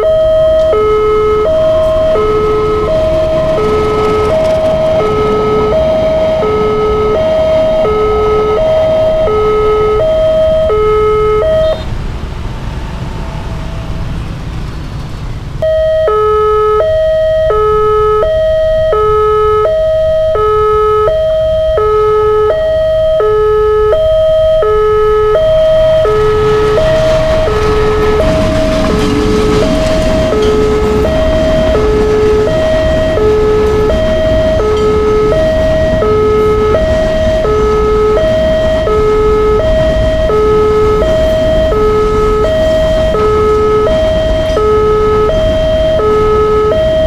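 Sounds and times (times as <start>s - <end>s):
level crossing two-tone alarm: 0.0s - 11.9s, 15.6s - 47.0s.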